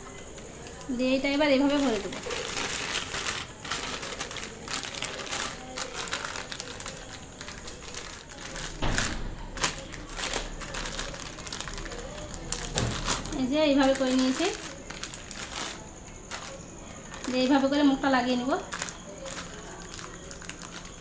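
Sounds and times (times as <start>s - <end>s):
plastic packet crinkling: 0.0s - 21.0s.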